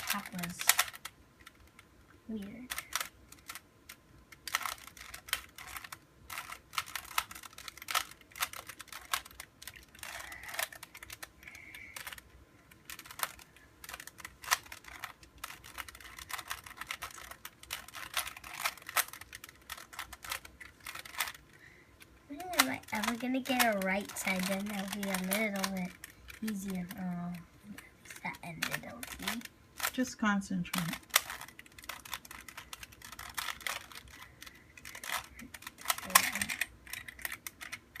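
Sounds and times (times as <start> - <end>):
puzzle cube layers clicking: 0.0 - 21.6, 22.3 - 30.0, 30.7 - 38.0.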